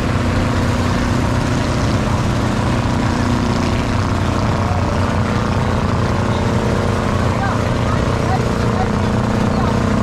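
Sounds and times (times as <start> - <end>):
motor engine droning: 0.0 - 10.0.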